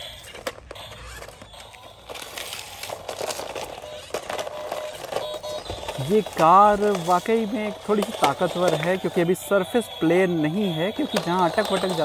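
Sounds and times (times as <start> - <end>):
electronic toy music: 0.0 - 12.0
toy car wheels clattering on bricks: 0.0 - 12.0.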